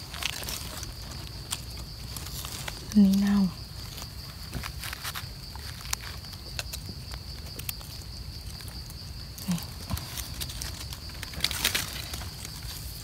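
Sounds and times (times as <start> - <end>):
high insect drone: 0.0 - 13.0
leaf litter and twigs crackling: 0.0 - 13.0.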